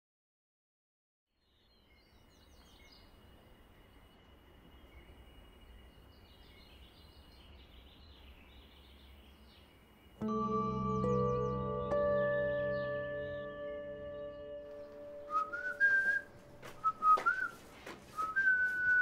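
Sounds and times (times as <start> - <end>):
birds chirping: 1.4 - 19.0.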